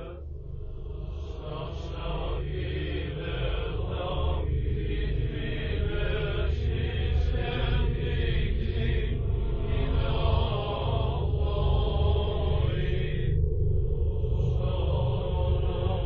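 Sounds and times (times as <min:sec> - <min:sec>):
low drone: 0:00.0 - 0:16.0
slow chanting voices: 0:00.0 - 0:16.0.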